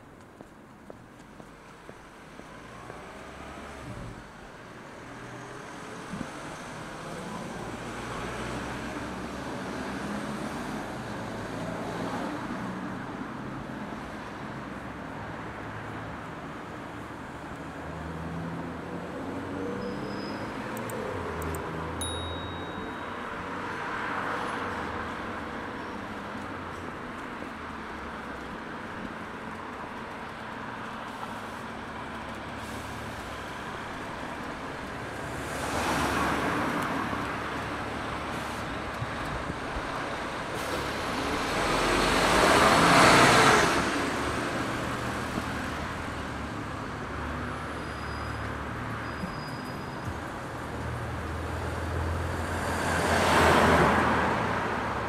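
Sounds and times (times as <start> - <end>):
background traffic noise: 0.0 - 55.0
cars passing close by: 0.0 - 55.0.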